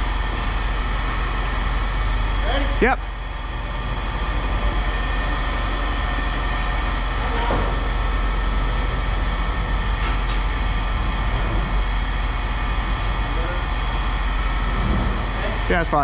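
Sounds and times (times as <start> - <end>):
heavy machinery rumbling: 0.0 - 16.0.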